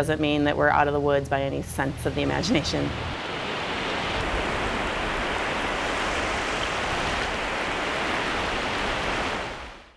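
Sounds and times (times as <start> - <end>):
surf washing at water's edge: 1.6 - 9.9.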